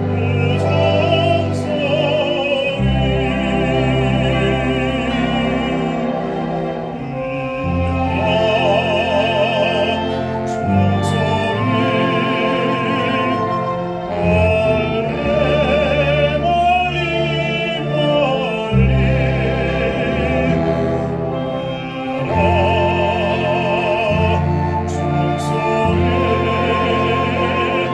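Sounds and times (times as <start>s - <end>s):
baritone singing with vibrato: 0.0s - 27.9s
orchestral strings: 0.0s - 27.9s.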